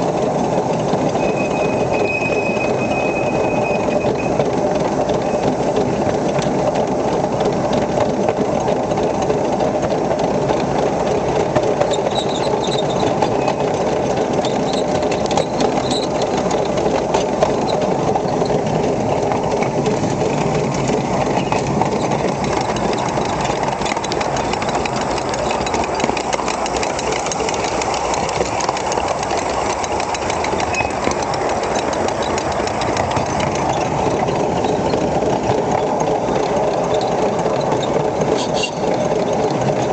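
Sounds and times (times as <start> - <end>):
steam locomotive exhaust chuffs: 0.0 - 39.9
wheels on rails: 0.0 - 39.9.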